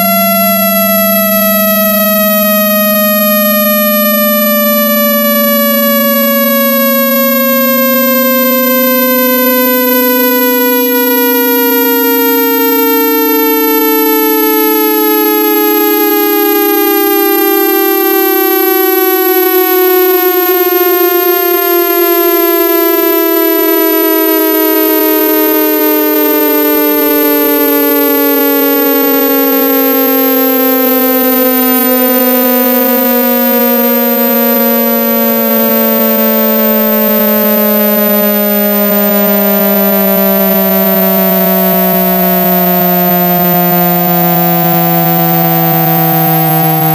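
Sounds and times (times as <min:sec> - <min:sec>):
buzzy gliding test tones: 0:00.0 - 0:46.9
faint high whine: 0:00.0 - 0:46.9.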